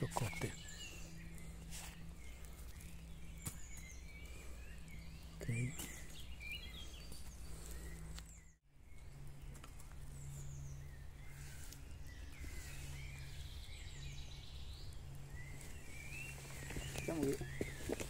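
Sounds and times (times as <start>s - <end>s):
steady low hum: 0.0s - 18.0s
wild birds chirping: 0.0s - 18.0s.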